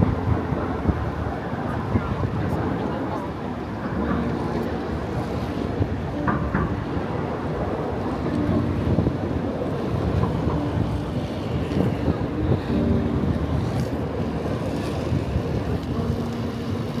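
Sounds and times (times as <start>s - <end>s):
monorail car rumbling: 0.0s - 17.0s
wind buffeting microphone: 0.0s - 17.0s.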